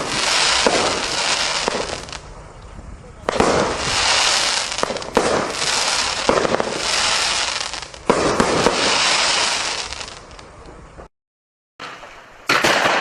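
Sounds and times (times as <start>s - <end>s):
fireworks bangs: 0.0s - 11.1s, 11.8s - 13.0s
fireworks crackling hiss: 0.0s - 11.1s, 11.8s - 13.0s.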